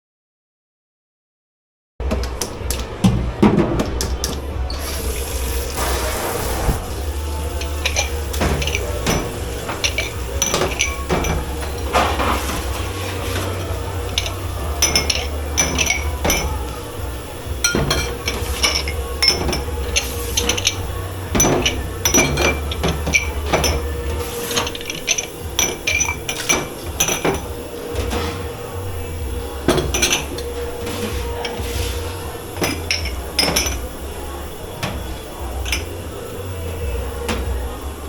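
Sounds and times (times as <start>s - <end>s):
dishes and cutlery clattering: 6.7s - 37.6s.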